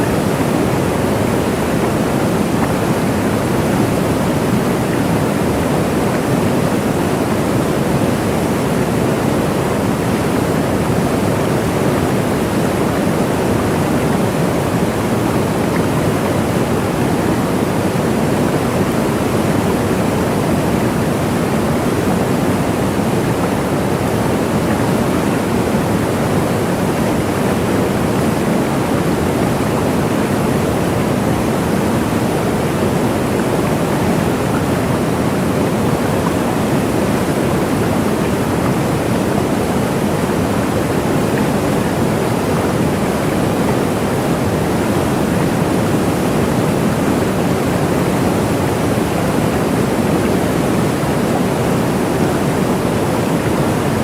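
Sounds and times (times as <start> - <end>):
waterfall rushing and splashing: 0.0 - 54.0.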